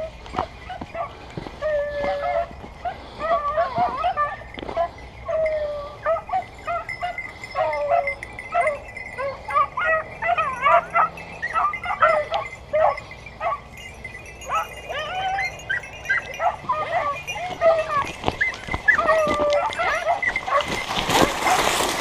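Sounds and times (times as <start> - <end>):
hounds yelping and baying: 0.0 - 22.0.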